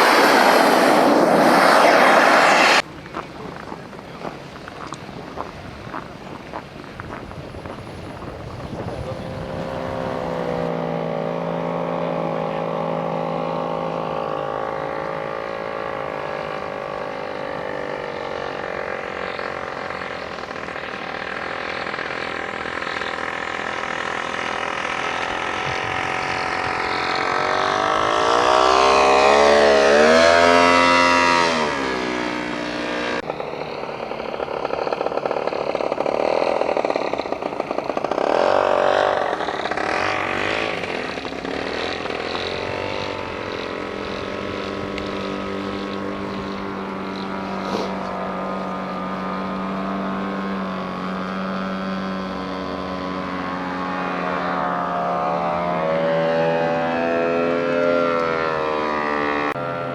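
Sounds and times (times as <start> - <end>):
model airplane engine buzzing: 0.0 - 59.9.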